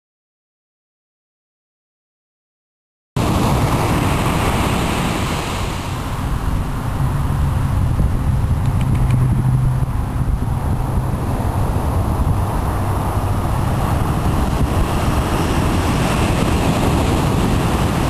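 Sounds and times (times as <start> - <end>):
surf breaking on beach: 3.2 - 18.0
wind buffeting microphone: 3.2 - 18.0.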